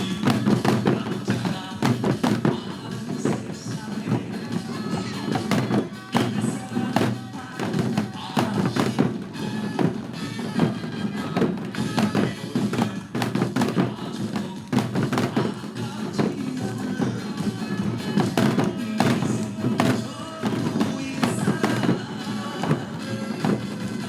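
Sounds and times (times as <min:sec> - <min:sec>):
drums struck with sticks: 0:00.0 - 0:24.0
upbeat backing music: 0:00.0 - 0:24.0.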